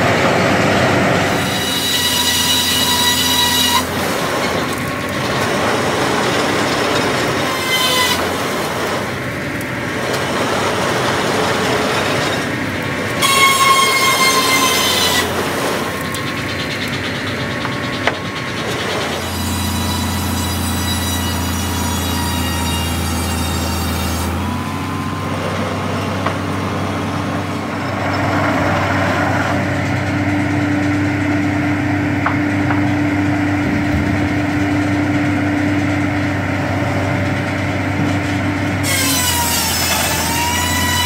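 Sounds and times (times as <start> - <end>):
circular saw cutting log: 0.0 - 41.0.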